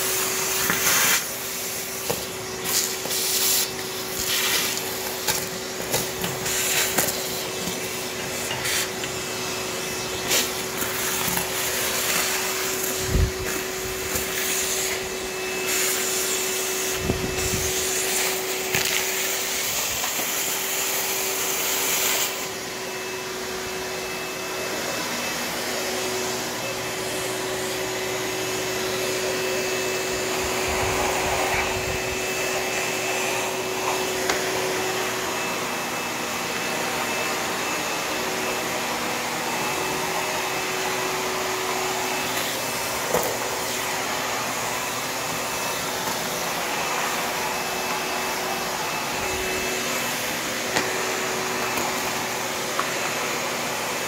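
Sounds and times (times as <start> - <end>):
vacuum motor whine: 0.0 - 54.0.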